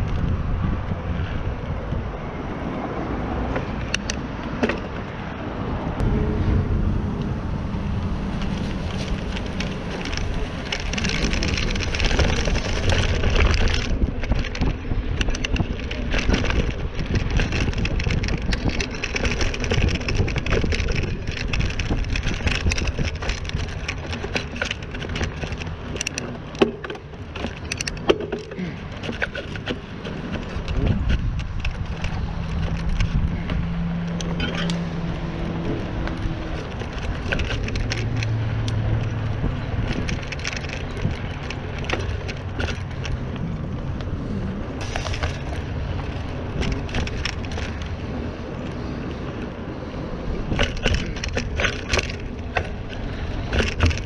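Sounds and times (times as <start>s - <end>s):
bike clicks and rattles: 0.0s - 6.2s, 6.8s - 54.0s
bike tyres rolling on dirt: 0.0s - 54.0s.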